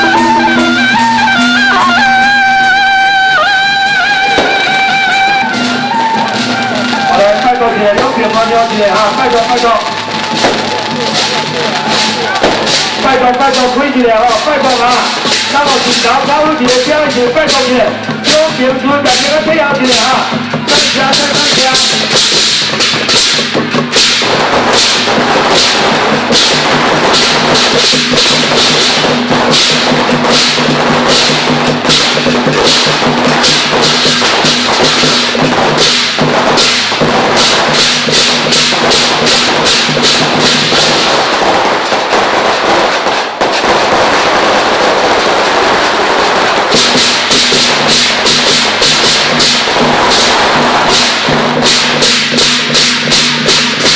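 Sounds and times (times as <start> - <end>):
drumming and percussion: 0.0 - 53.9.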